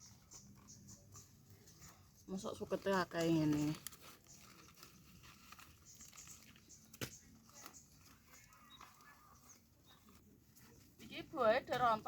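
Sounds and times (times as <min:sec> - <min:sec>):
faint rustles: 0:00.0 - 0:12.0.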